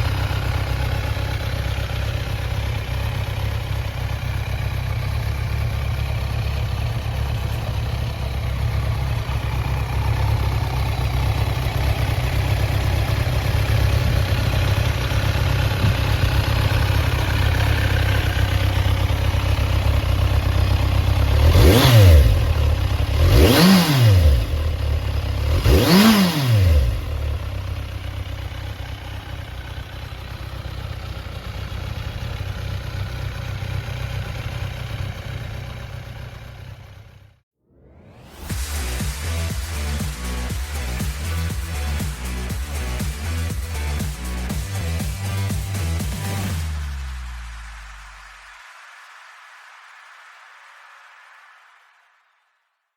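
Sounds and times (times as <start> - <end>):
motorcycle engine idling and revving: 0.0 - 37.4, 38.3 - 48.3.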